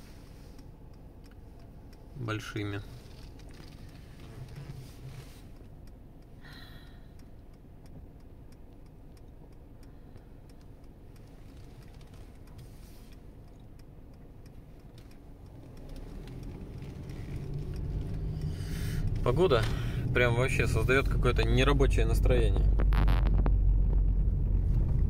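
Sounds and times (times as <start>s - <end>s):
car rolling hum: 0.0s - 25.0s
turn signal ticking: 0.0s - 25.0s.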